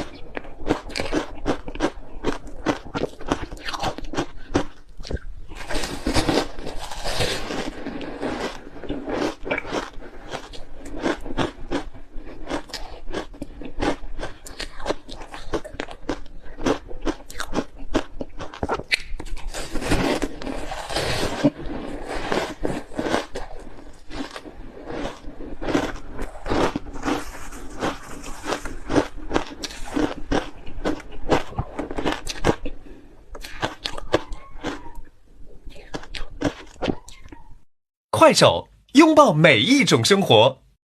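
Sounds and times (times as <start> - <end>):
ice crunching while chewed: 0.0 - 37.2.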